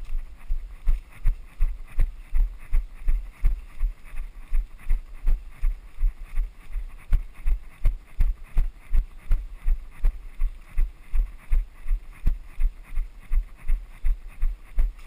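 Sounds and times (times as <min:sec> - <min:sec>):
running footsteps on dirt: 0:00.0 - 0:15.0.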